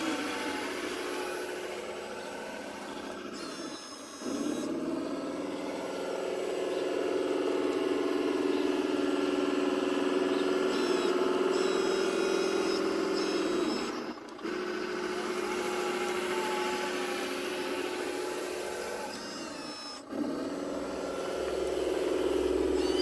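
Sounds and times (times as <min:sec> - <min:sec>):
electric motor and pump whine: 0:00.0 - 0:23.0
high gear whine: 0:00.0 - 0:23.0.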